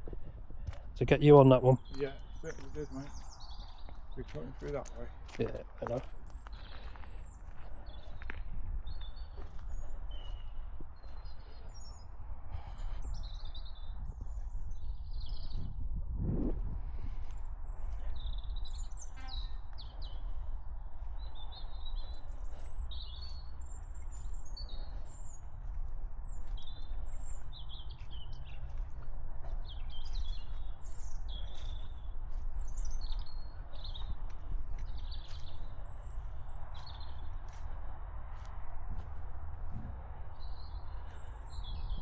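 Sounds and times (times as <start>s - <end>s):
small birds chirping: 0.0s - 15.8s, 17.1s - 42.0s
steady low rumble: 2.2s - 42.0s.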